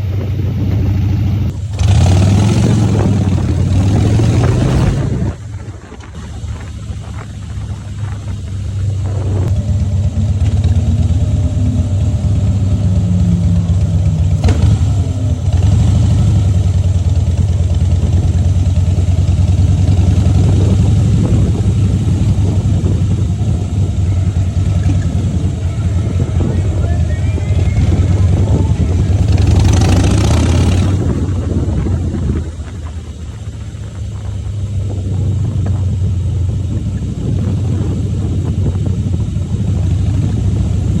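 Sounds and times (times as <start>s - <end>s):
motorcycle engine throbbing: 0.0s - 41.0s.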